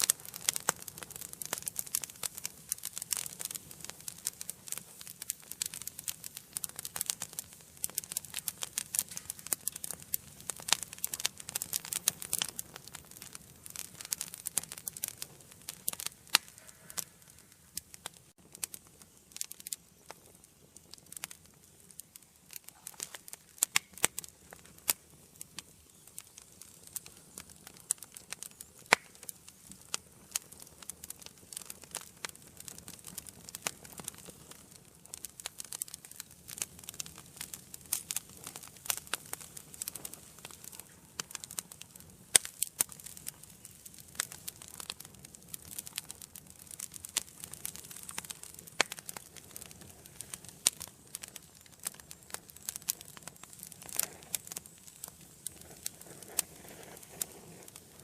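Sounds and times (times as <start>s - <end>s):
soft hiss of flames: 0.0s - 58.0s
wood fire crackling and popping: 0.0s - 58.0s.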